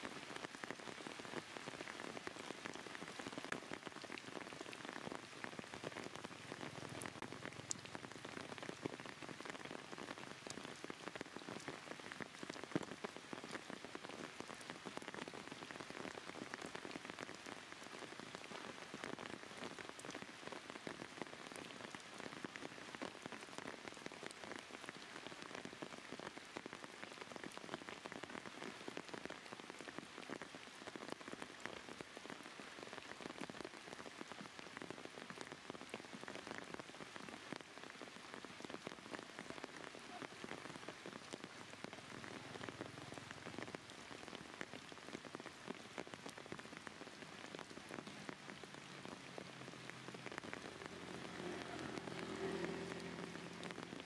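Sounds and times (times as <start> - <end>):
steady rain hissing: 0.0 - 54.0
raindrops ticking: 0.1 - 54.0.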